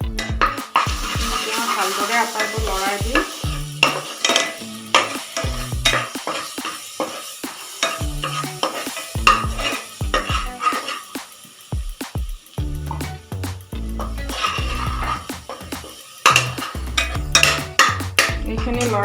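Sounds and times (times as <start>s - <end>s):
spices sizzling in pan: 0.0s - 19.0s
utensil scraping and knocking pan: 0.2s - 11.2s, 14.0s - 19.0s.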